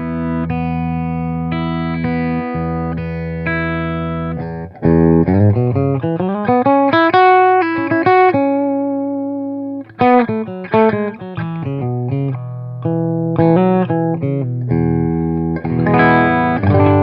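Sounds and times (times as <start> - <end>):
electric guitar: 0.0 - 17.0.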